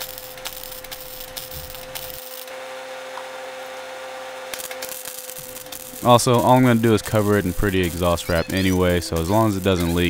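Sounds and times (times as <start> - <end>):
steady hum: 0.0 - 10.0
welder arc crackling: 0.0 - 10.0.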